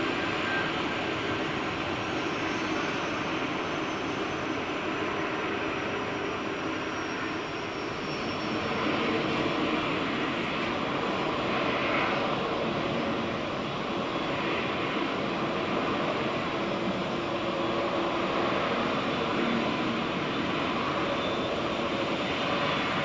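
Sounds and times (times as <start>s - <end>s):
high engine whine: 0.0s - 23.0s
jet engines roaring: 0.0s - 23.0s.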